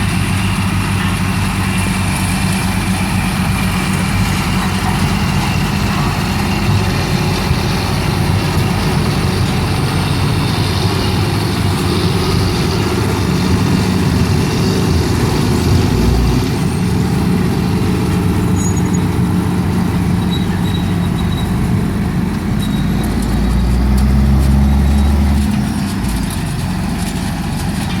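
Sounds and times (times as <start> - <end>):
deep engine rumble: 0.0 - 28.0
harvester machinery running: 0.0 - 28.0
tractor diesel engine: 0.0 - 28.0.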